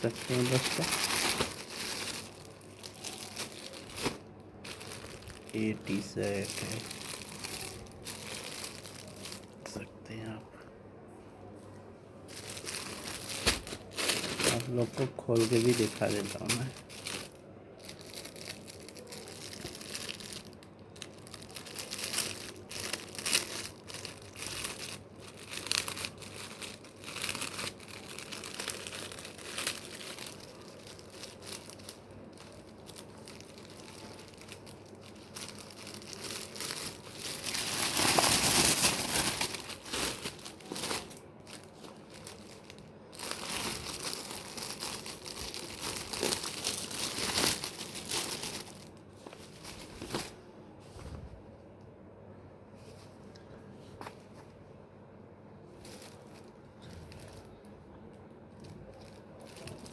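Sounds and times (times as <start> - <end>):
plastic packaging crinkling: 0.0 - 9.9, 12.2 - 50.4, 55.8 - 59.9.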